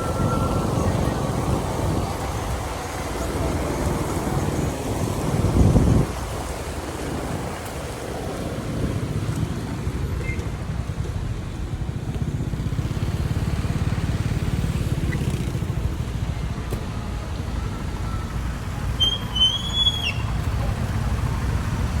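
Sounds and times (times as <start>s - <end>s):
traffic on wet road: 0.0s - 22.0s.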